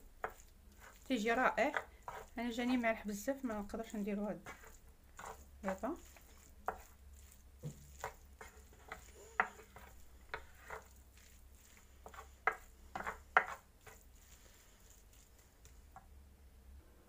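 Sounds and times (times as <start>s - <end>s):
wooden spoon scraping a pan: 0.0s - 16.0s.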